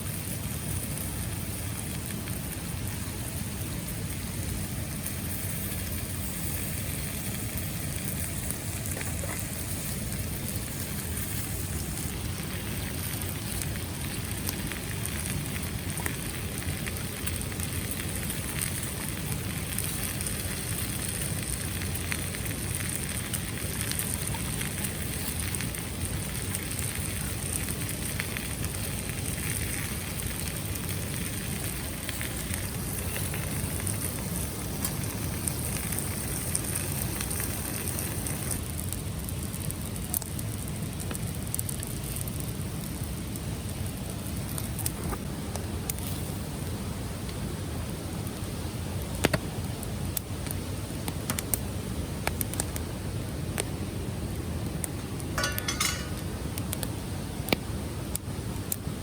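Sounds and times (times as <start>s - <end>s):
faint crackles: 0.1s - 47.5s, 48.1s - 58.9s.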